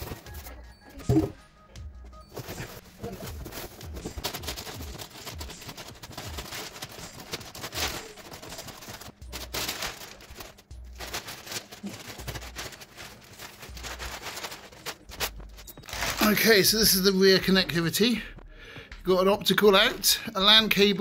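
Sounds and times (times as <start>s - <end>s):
plastic sheeting crinkling: 0.0s - 1.4s, 2.2s - 18.2s.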